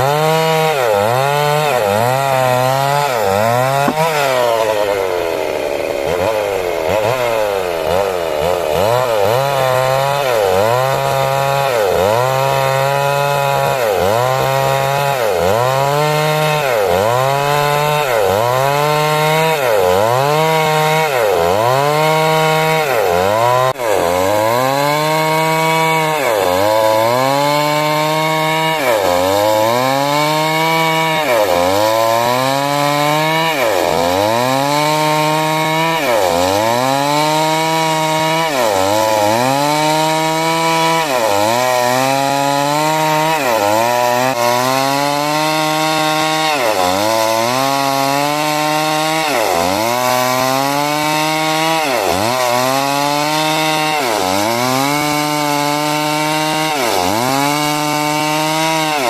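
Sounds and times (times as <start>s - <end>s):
chainsaw cutting timber: 0.0s - 59.0s.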